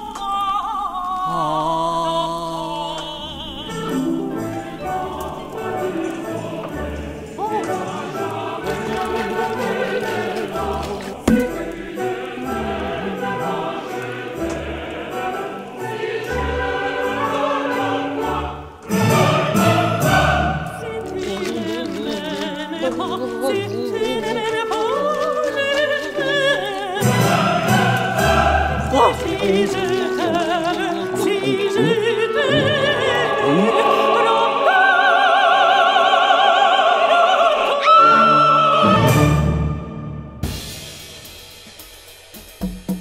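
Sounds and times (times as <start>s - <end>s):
voice singing with wide vibrato: 0.0s - 39.7s
operatic choir singing: 0.0s - 40.6s
orchestral music: 2.0s - 41.2s.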